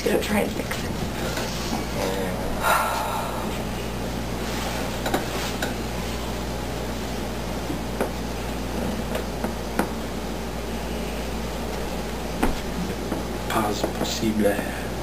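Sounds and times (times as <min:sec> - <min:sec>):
room noise hum and hiss: 0:00.0 - 0:15.0.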